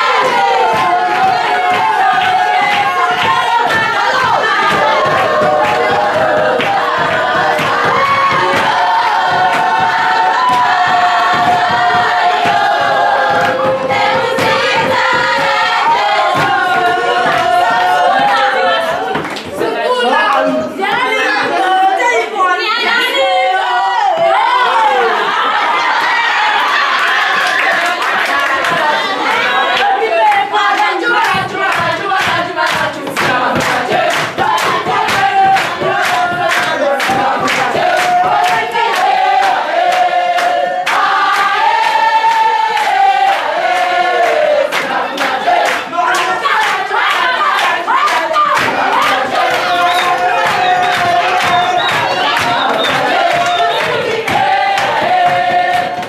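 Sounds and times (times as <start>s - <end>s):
handclaps: 0.0s - 19.6s, 26.0s - 56.0s
young voices singing together: 0.0s - 56.0s.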